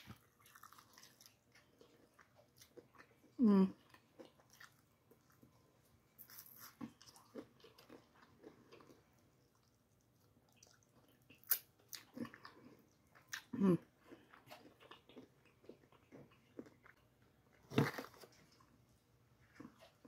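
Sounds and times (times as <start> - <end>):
chewing: 0.0 - 18.8, 19.4 - 20.0.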